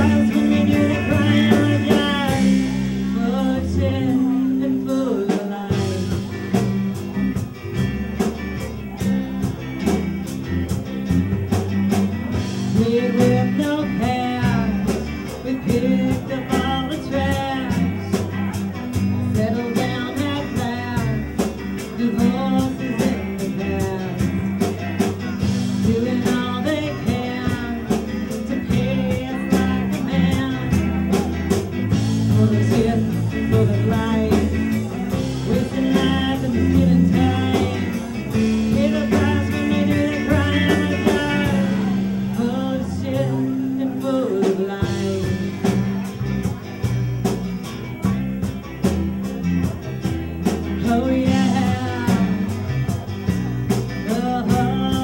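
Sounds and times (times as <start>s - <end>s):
woman singing lead: 0.0s - 6.8s, 12.3s - 46.4s, 50.4s - 55.0s
acoustic guitar: 0.0s - 55.0s
electric bass: 0.0s - 55.0s
electric guitar: 0.0s - 55.0s
steady drum beat: 0.0s - 55.0s.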